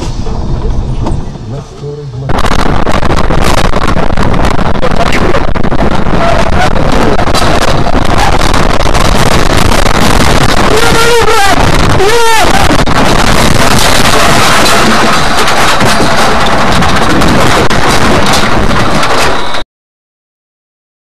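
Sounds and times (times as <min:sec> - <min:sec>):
road and wind noise in vehicle: 0:00.0 - 0:19.6.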